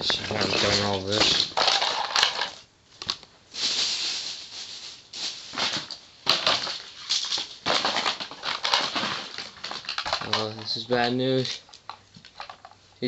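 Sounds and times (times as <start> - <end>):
rustling: 0.0 - 12.8.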